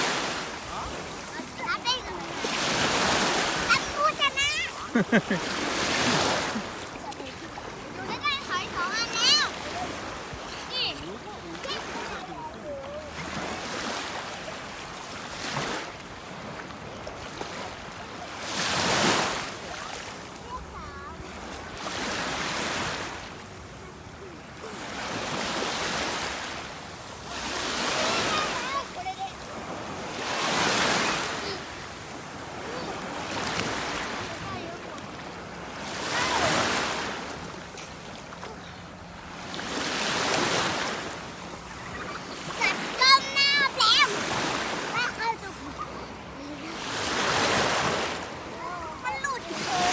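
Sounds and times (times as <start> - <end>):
seawater washing and splashing: 0.0 - 23.3, 24.6 - 49.9.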